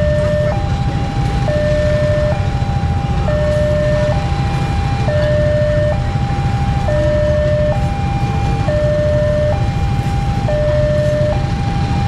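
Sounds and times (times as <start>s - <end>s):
electronic two-tone crossing alarm: 0.0s - 12.0s.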